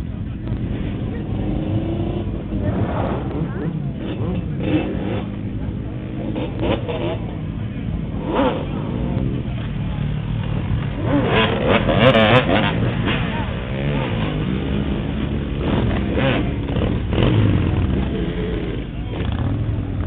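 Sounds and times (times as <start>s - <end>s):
crowd voices: 0.0s - 20.0s
motorcycle engines running: 0.0s - 20.0s.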